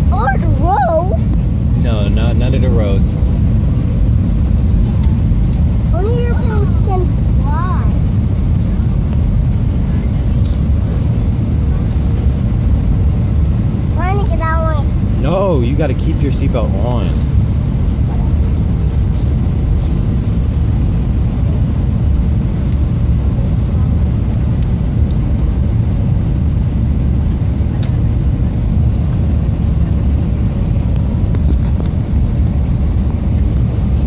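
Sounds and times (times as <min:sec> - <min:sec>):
jet engine and airflow rumble: 0:00.0 - 0:34.0.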